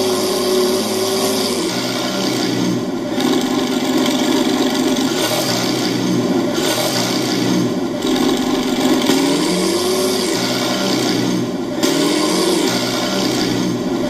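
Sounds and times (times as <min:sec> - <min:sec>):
model tank engine sound effect: 0:00.0 - 0:14.0.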